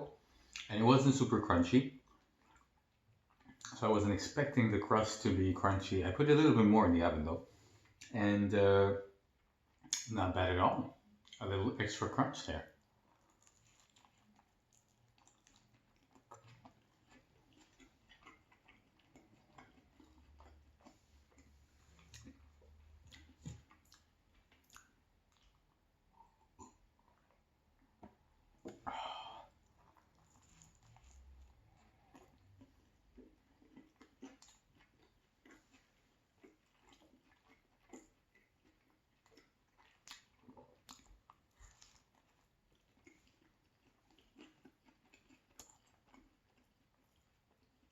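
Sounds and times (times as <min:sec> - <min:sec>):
chewing crunchy food: 0:00.2 - 0:05.9, 0:09.4 - 0:47.9.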